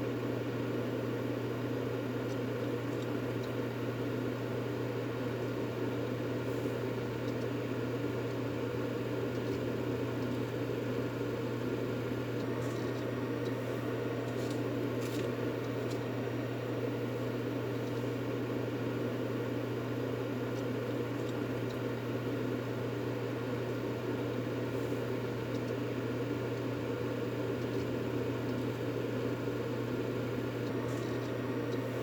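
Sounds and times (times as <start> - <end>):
white noise hum: 0.0 - 32.0.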